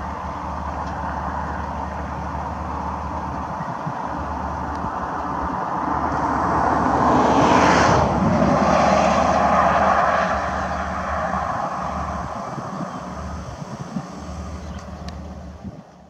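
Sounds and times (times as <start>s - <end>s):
vehicle passing by: 1.0s - 15.8s.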